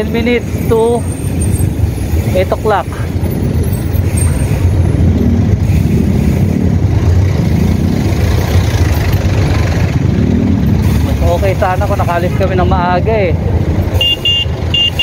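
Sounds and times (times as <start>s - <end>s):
low traffic rumble: 0.0s - 15.0s
vehicle engines in traffic: 0.0s - 15.0s.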